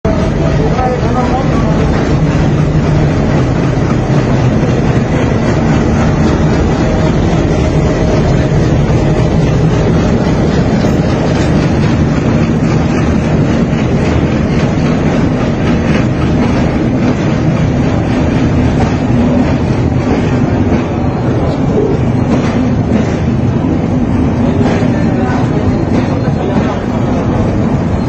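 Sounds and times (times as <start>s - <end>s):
diesel locomotive engine running: 0.0s - 28.0s.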